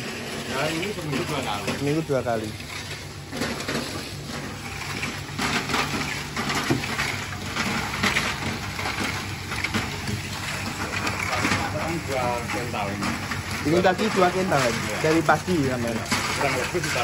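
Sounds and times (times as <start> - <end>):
crackers rattling: 0.0 - 17.0
steady low hum: 0.0 - 17.0.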